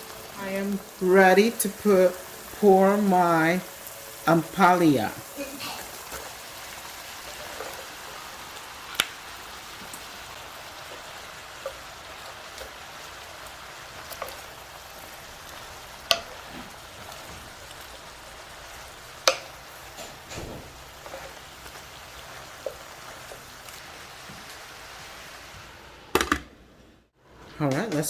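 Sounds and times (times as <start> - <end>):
vegetables sizzling in oil: 0.0 - 26.2.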